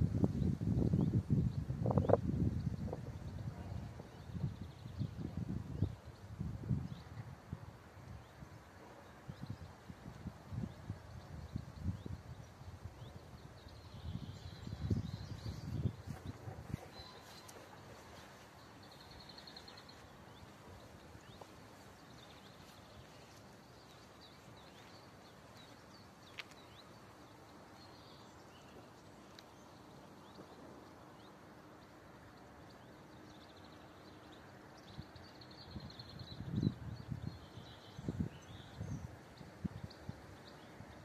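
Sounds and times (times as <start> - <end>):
small birds chirping: 8.1 - 41.0.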